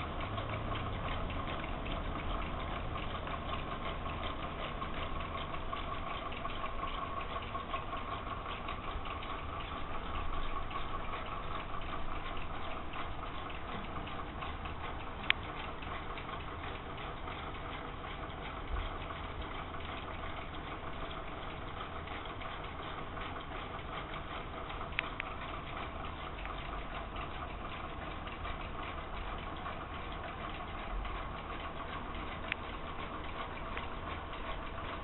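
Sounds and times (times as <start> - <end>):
rapid mechanical clicking: 0.0 - 35.0
steady whir: 0.0 - 35.0.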